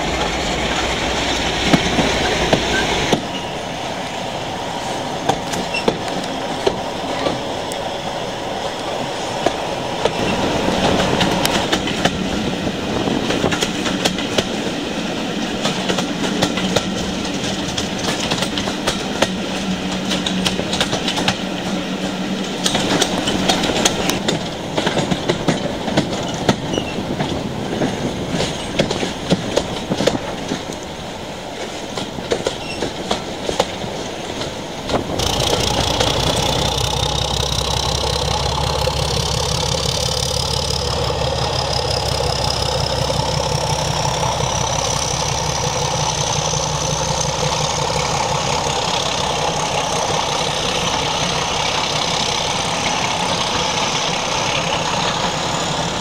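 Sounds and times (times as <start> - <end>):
train wheels clacking over rail joints: 0.0 - 3.6, 4.9 - 7.9, 8.6 - 56.0
diesel locomotive engine drone: 0.0 - 56.0.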